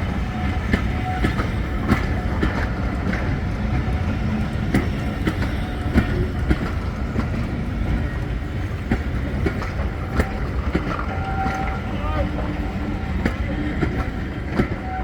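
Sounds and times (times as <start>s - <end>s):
diesel train rumbling: 0.0s - 15.0s
wheels clicking on rails: 0.0s - 15.0s.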